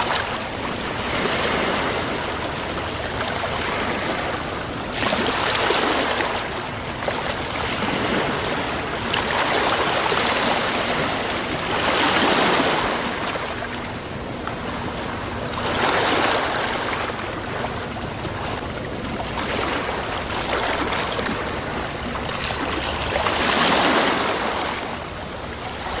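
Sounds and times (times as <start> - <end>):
sea waves breaking: 0.0 - 26.0.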